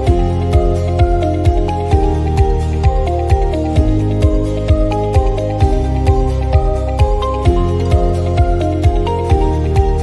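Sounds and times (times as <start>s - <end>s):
calm new-age synth music: 0.0s - 10.0s.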